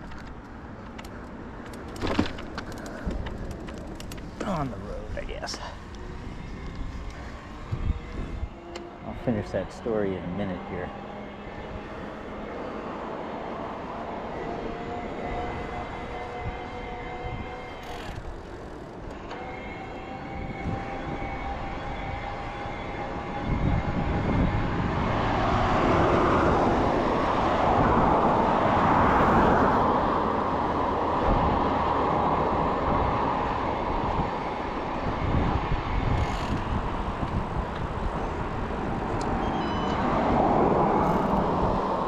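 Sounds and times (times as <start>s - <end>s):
motor traffic going by: 0.0s - 42.0s
wind rushing over microphone: 1.5s - 42.0s.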